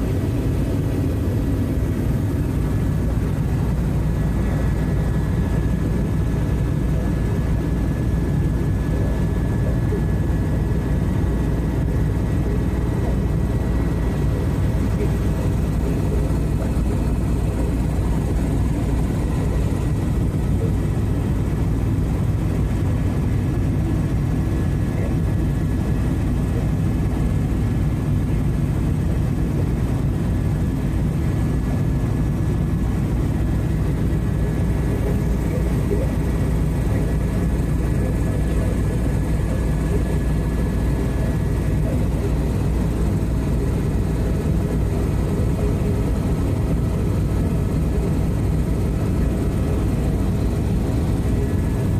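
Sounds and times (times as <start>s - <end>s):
faint whining tones: 0.0s - 51.9s
helicopter cabin rotor drone: 0.0s - 51.9s.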